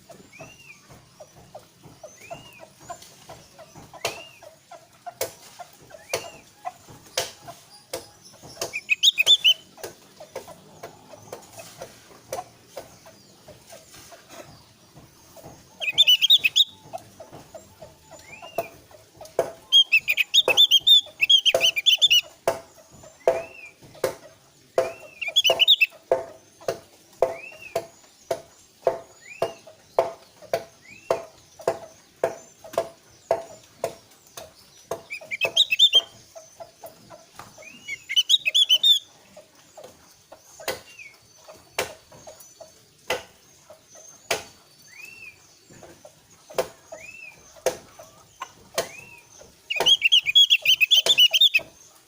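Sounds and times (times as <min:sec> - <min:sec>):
bird twittering and chirping: 0:00.0 - 0:52.0.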